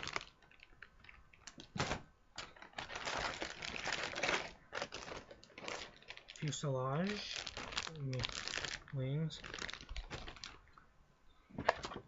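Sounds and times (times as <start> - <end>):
plastic bags crinkling: 0.0 - 10.8.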